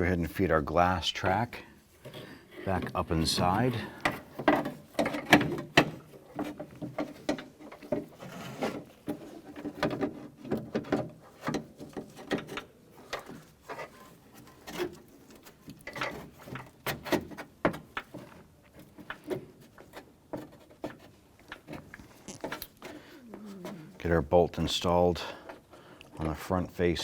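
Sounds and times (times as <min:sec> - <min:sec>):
rustling handling noise: 0:01.2 - 0:26.7.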